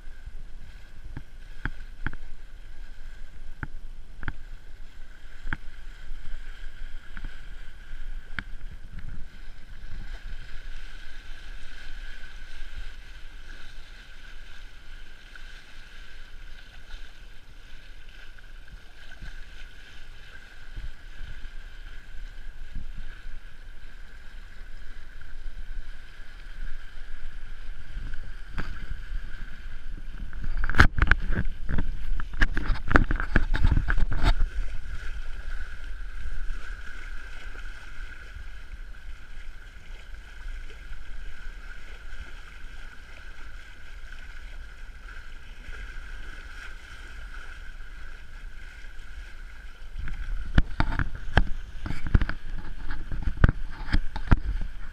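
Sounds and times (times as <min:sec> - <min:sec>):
steady high hum: 0:00.0 - 0:54.9
water rushing along a hull: 0:00.0 - 0:54.9
wind on the microphone: 0:00.0 - 0:54.9.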